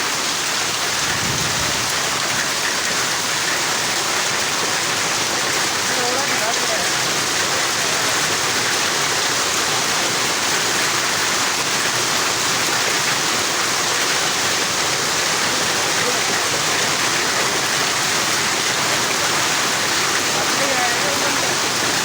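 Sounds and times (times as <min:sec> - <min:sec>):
heavy rain with hail: 0:00.0 - 0:22.0.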